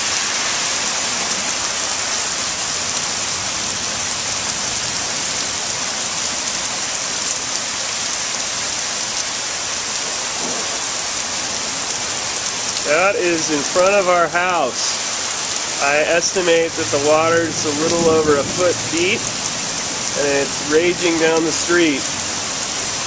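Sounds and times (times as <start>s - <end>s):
floodwater rushing down street: 0.0s - 23.0s
heavy rain pouring: 0.0s - 23.0s.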